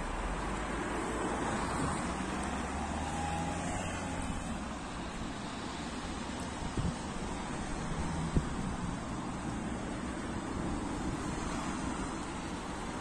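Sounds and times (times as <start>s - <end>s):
car engine and tyres running: 0.0s - 13.0s.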